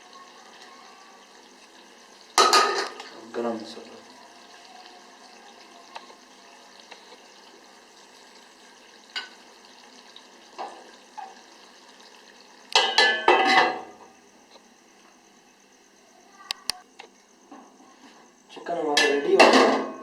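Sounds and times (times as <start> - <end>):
chicken sizzling: 0.0 - 16.8.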